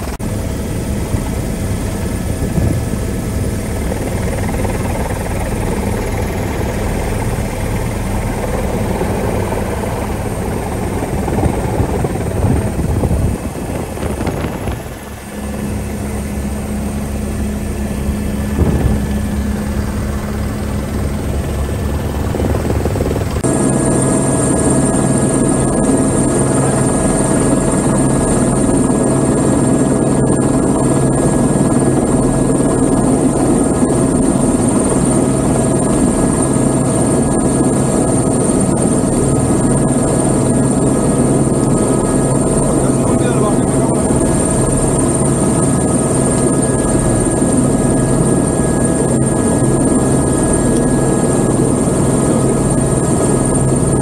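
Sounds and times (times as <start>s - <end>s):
helicopter turbine and rotor: 0.0s - 54.0s
high turbine whine: 0.0s - 54.0s.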